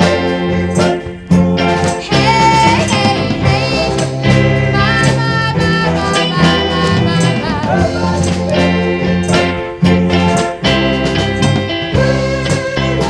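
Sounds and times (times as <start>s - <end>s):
soul song with band: 0.0s - 13.0s
steady drum beat: 0.0s - 13.0s.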